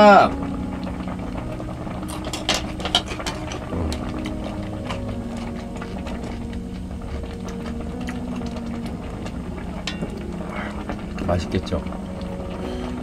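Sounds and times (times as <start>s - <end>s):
ladling stew: 0.0s - 13.0s
steady low hum: 0.0s - 13.0s.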